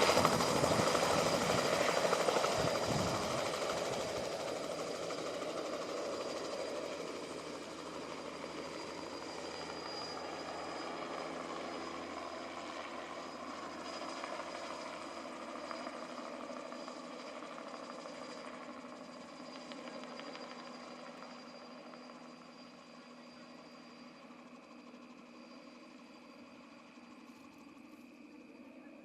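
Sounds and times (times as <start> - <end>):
helicopter turbine whine: 0.0 - 29.0.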